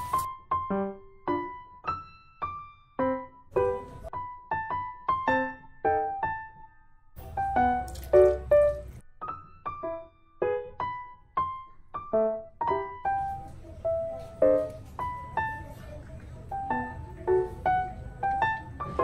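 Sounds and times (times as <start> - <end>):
bouncy piano melody: 0.0 - 19.0.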